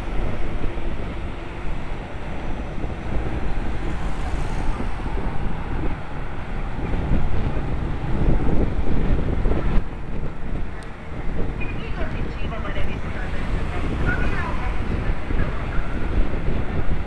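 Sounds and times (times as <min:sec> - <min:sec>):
car traffic: 0:00.0 - 0:17.0
wind buffeting microphone: 0:00.0 - 0:17.0.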